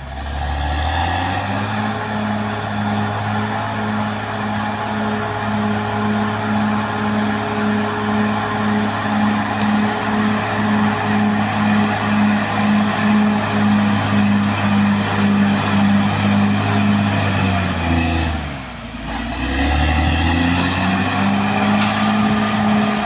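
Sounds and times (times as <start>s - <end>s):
bulldozer diesel engine under load: 0.0s - 23.0s.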